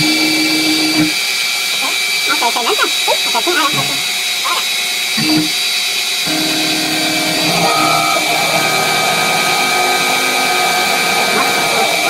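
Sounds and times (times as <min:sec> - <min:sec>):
milling machine spindle whine: 0:00.0 - 0:12.0.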